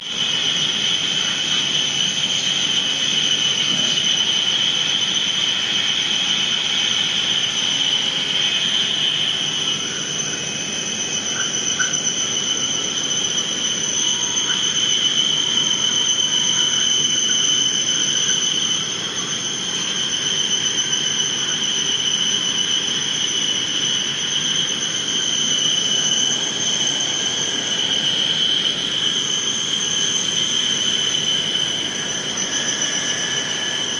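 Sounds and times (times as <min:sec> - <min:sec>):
lathe high-pitched whine: 0:00.0 - 0:33.9.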